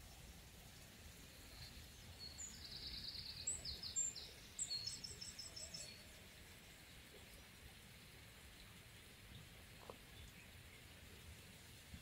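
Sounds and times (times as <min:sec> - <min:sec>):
faint background noise: 0:00.0 - 0:12.0
songbirds trilling and chirping: 0:00.0 - 0:12.0.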